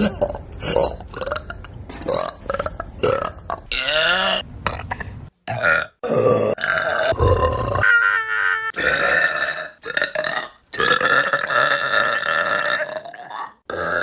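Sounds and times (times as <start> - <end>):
loud burps: 0.0 - 7.9, 8.8 - 14.0.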